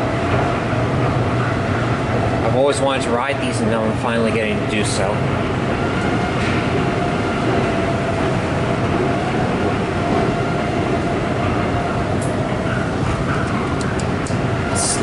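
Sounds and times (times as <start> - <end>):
elevator cab rumbling on rails: 0.0 - 15.0.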